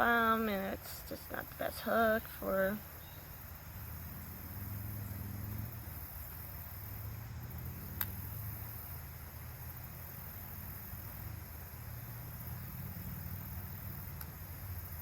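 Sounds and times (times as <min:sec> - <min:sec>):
faint hiss: 0:00.0 - 0:15.0
low outdoor rumble: 0:00.0 - 0:15.0.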